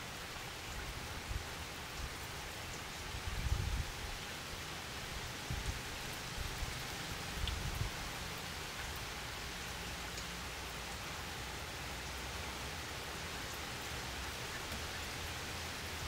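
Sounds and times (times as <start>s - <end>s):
rain on a wooden deck: 0.0s - 16.0s.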